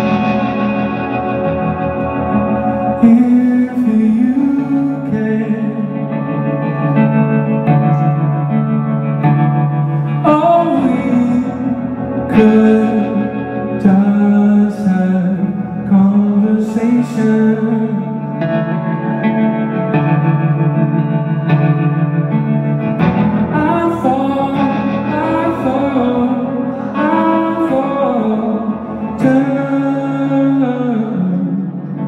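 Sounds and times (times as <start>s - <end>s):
strummed guitar: 0.0s - 32.0s.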